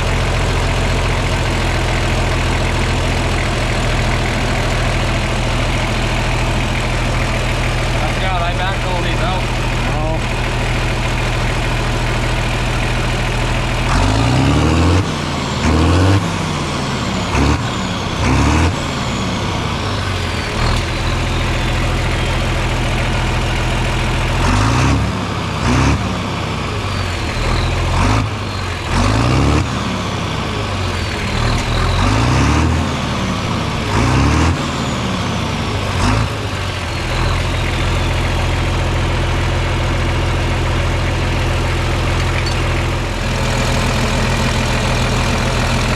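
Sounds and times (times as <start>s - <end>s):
farm machinery engine revving: 0.0s - 45.9s.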